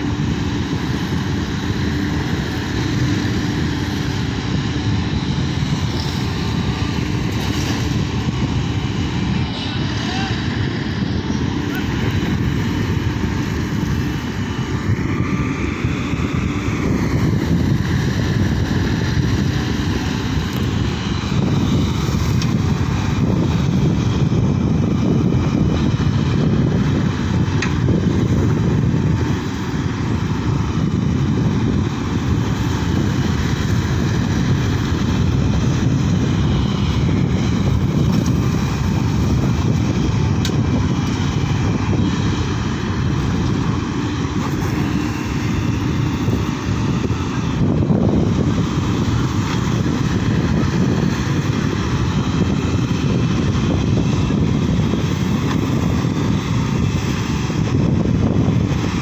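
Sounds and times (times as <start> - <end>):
excavator diesel engine rumble: 0.0 - 59.0.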